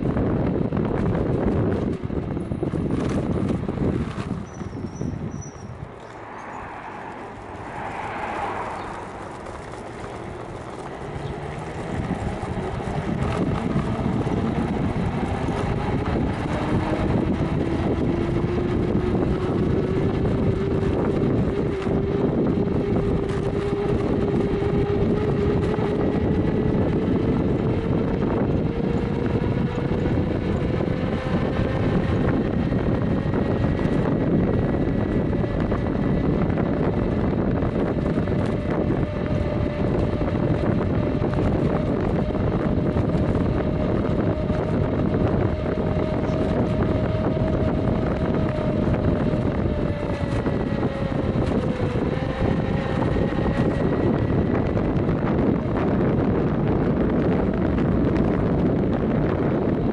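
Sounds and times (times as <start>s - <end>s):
tyre rumbling on road: 0.0s - 59.9s
wind on microphone: 0.0s - 59.9s
electric motor whine: 5.9s - 59.9s.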